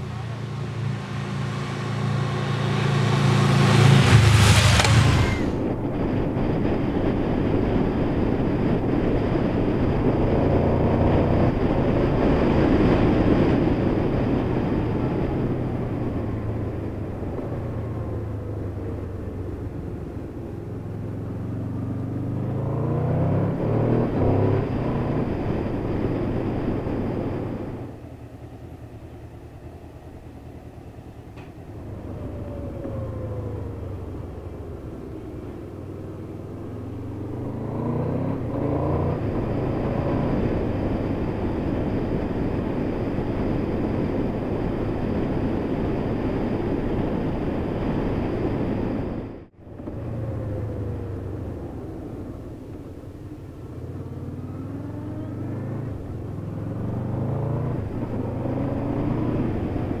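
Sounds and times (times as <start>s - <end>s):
motorcycle engine accelerating: 0.0s - 60.0s
riding wind noise: 0.0s - 60.0s.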